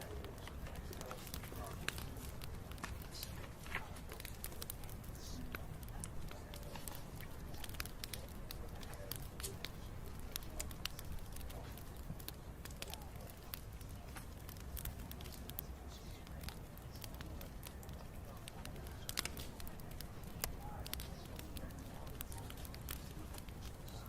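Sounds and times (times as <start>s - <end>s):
bonfire crackling: 0.0s - 24.0s.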